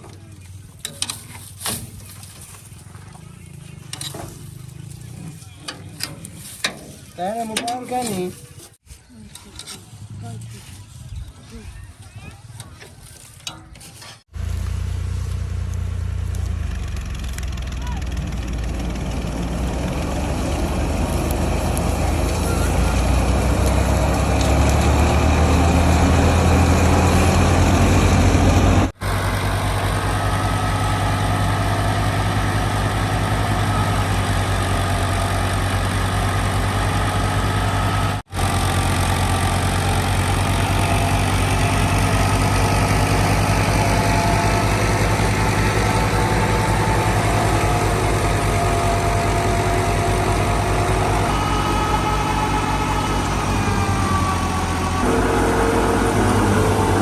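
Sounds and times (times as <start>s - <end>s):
diesel tractor engine drone: 0.0s - 57.0s.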